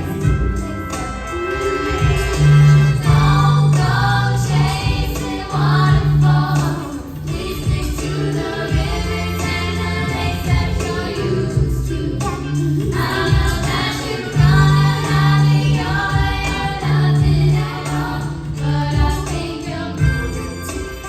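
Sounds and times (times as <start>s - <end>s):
sustained bass notes: 0.0s - 20.9s
several voices singing: 0.0s - 21.0s.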